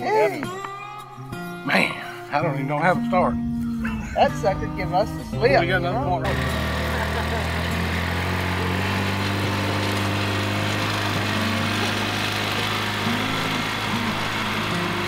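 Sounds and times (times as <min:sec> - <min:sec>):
utility vehicle engine humming: 0:00.6 - 0:15.0.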